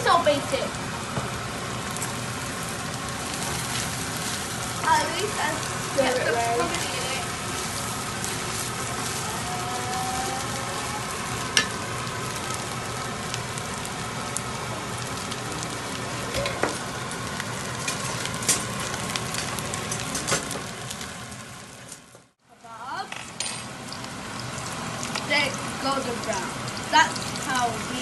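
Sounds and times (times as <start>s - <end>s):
rice sizzling in a pan: 0.0s - 28.0s.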